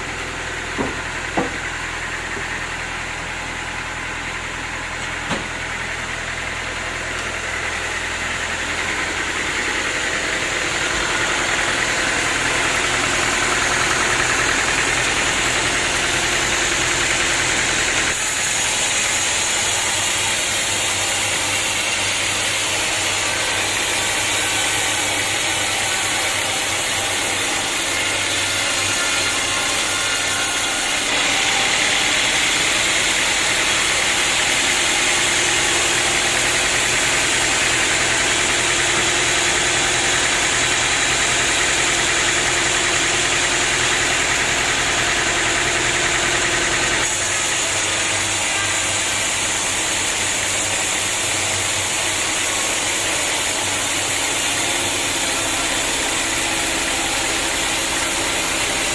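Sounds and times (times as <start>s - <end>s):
sawmill mechanical roar: 0.0s - 58.9s.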